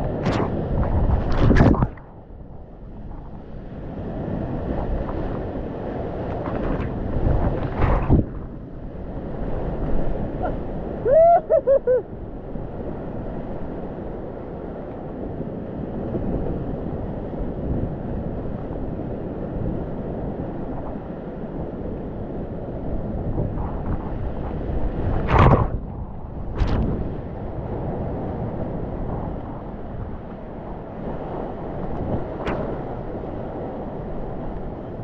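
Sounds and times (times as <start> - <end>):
wind noise: 0.0 - 35.0.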